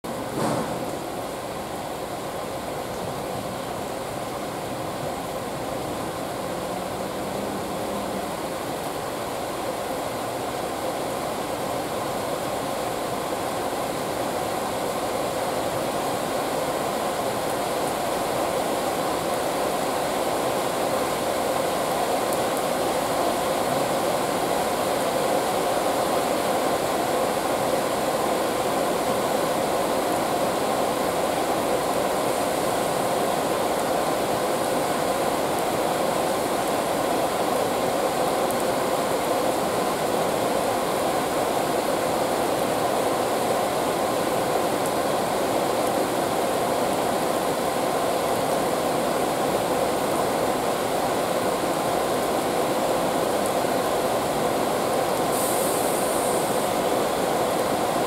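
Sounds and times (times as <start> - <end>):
steady hiss: 0.1 - 58.0.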